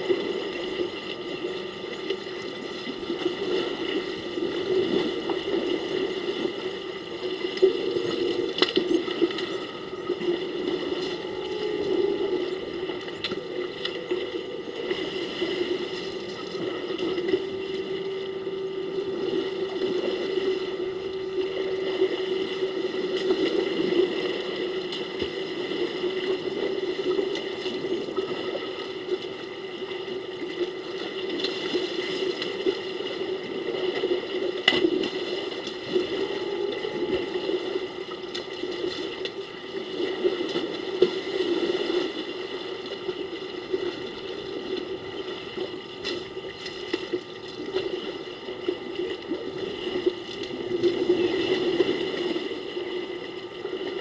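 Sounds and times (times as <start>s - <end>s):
water sloshing and splashing: 0.0s - 54.0s.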